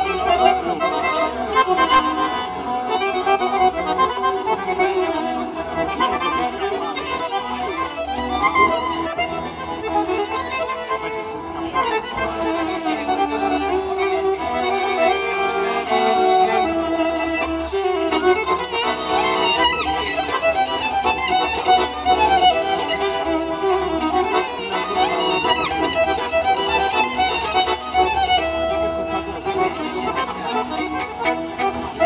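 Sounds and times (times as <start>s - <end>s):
accordion playing waltz: 0.0s - 32.0s
violin melody: 0.0s - 32.0s.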